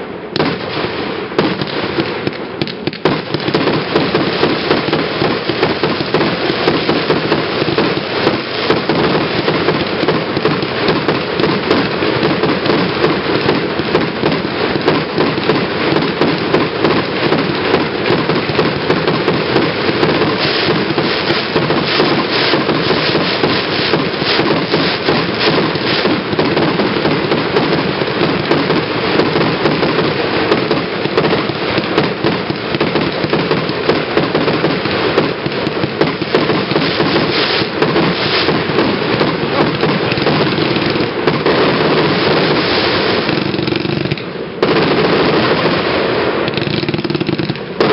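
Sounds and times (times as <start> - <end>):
fireworks launching and crackling: 0.0 - 47.9
sharp firework cracks: 0.0 - 47.9.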